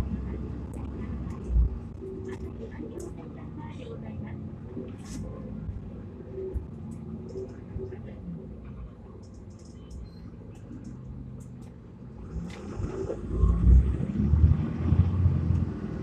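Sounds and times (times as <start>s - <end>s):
bus diesel engine: 0.0s - 16.0s.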